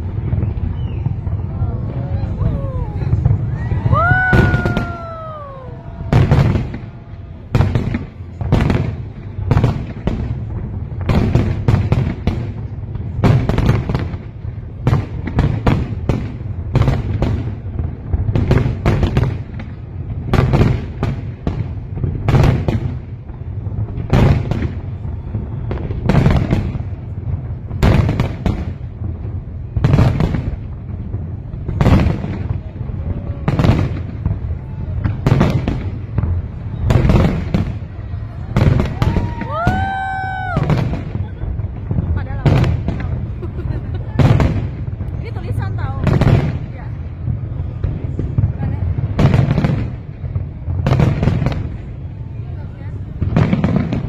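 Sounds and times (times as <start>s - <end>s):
fireworks bangs: 0.0s - 54.0s
rumble of echoing explosions: 0.0s - 54.0s.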